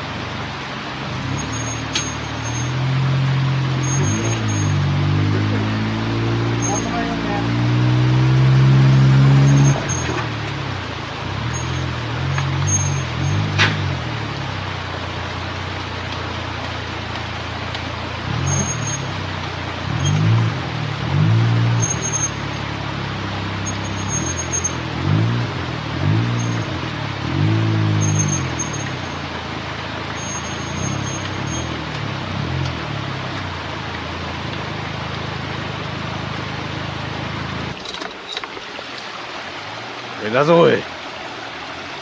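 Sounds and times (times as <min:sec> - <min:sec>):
car engine revving: 0:00.0 - 0:37.8.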